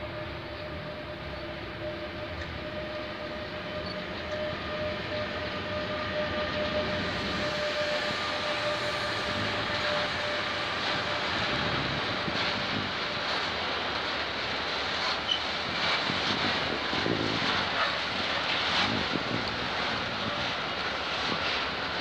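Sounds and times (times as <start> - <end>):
locomotive whine: 0.0 - 22.0
train wheels rolling on rails: 0.0 - 22.0.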